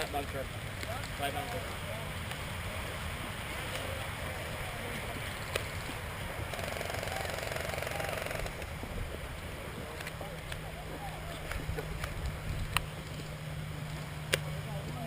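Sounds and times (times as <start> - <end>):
camera rumble and rustle: 0.0 - 15.0.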